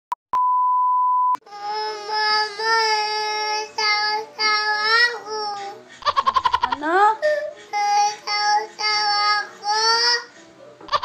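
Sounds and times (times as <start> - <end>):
toddler crying: 1.5 - 10.4.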